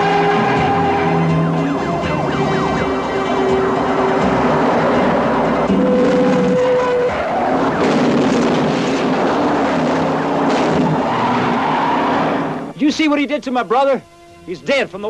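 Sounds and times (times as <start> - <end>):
car engines driving fast: 0.0 - 12.8.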